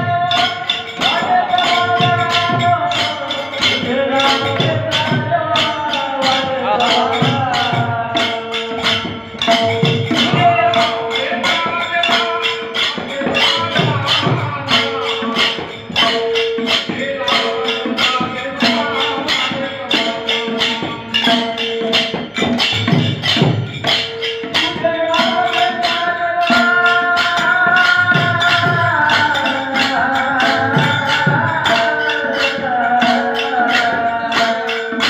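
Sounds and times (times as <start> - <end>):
rhythmic hand percussion: 0.0 - 35.0.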